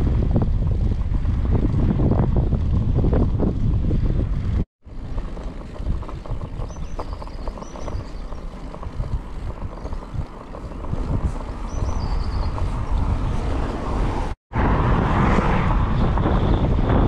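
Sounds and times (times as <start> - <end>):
tyre and road rumble: 0.0 - 17.0
wind buffeting microphone: 0.0 - 17.0.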